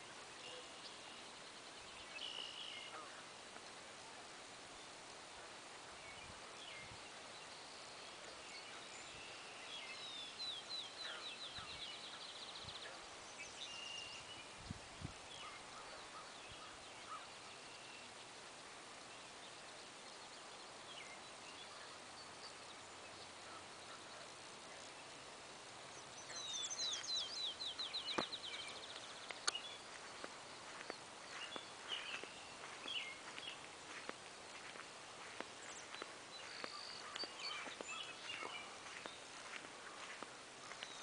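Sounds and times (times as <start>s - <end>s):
small birds singing: 0.0s - 41.0s
steady outdoor hiss: 0.0s - 41.0s.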